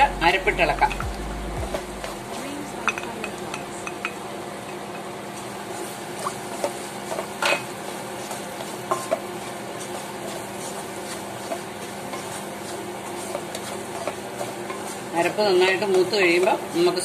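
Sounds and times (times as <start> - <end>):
frying sizzle: 0.0 - 17.0
stirring and scraping in frying pan: 2.1 - 17.0.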